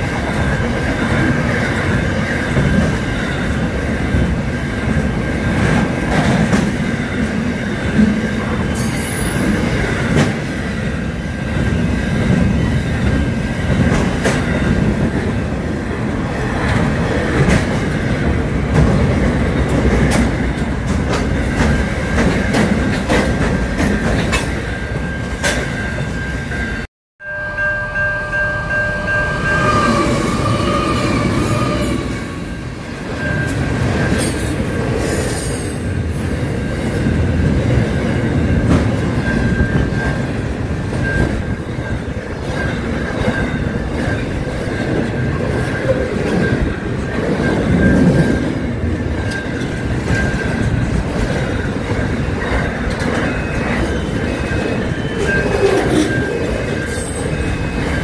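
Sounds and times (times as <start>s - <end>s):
diesel locomotive passing: 0.0s - 58.0s
freight train rolling past: 0.0s - 58.0s.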